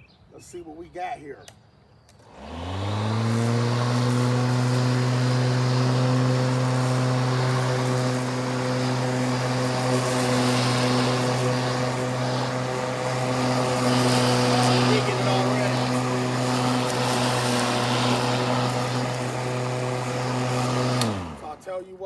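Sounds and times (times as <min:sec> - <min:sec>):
electric lawnmower motor: 0:02.1 - 0:21.8.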